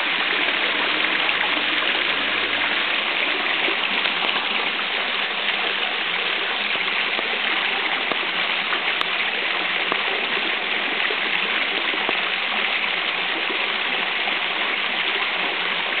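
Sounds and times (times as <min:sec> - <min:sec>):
stream water rushing: 0:00.0 - 0:16.0
water falling into rocky pool: 0:00.0 - 0:16.0.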